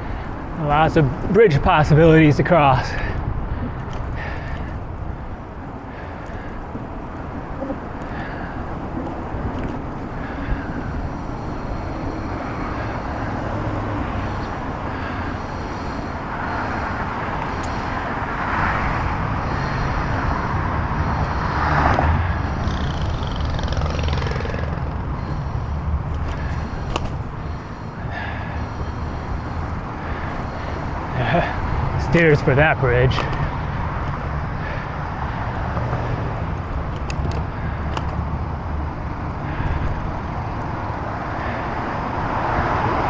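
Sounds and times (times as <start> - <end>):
bicycle road rumble: 0.0 - 43.0
vehicle passing by: 0.0 - 43.0
wind: 0.0 - 43.0.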